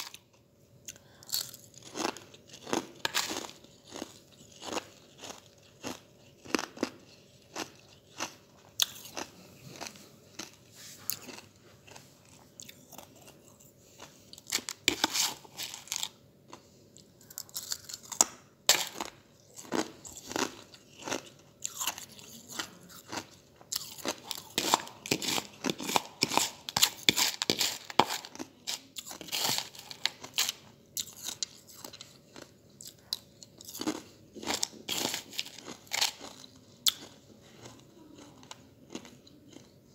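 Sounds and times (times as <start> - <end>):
ice chips crunching: 1.3 - 13.3, 14.4 - 16.1, 17.3 - 37.8.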